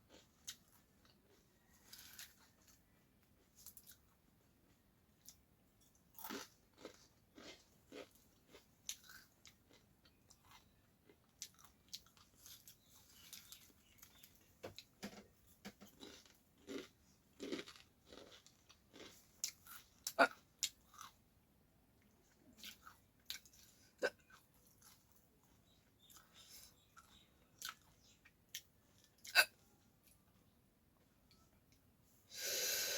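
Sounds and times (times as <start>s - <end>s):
person chewing crunchy snack: 0.0s - 14.9s, 15.8s - 21.2s, 22.5s - 30.2s.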